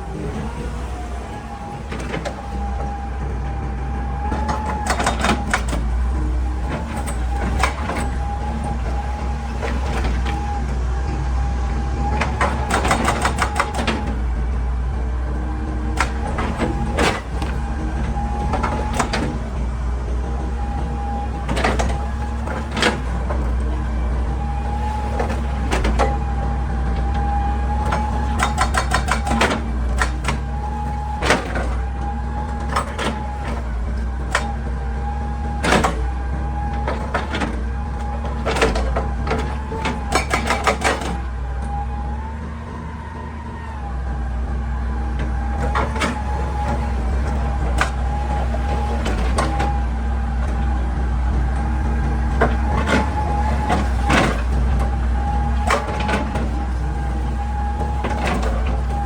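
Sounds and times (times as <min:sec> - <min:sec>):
excavator diesel engine: 0:00.0 - 0:59.0
hydraulic whine: 0:00.0 - 0:59.0.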